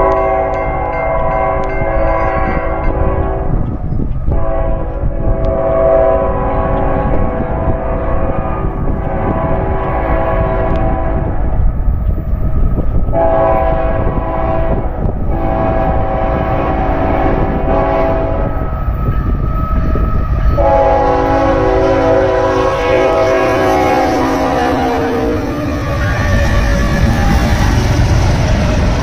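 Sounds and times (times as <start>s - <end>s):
locomotive air horn blasts: 0.0s - 3.7s, 4.3s - 11.4s, 13.1s - 18.7s, 20.5s - 27.6s
low rumble of train: 0.0s - 29.0s.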